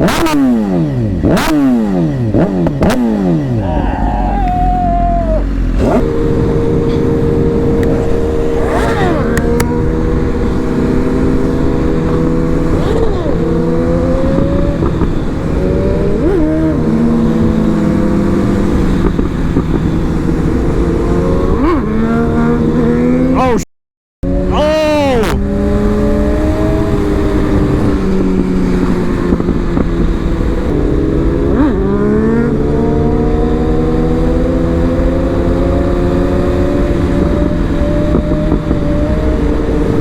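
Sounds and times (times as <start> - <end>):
motorcycle engine cruising: 0.0 - 23.6, 24.2 - 40.0.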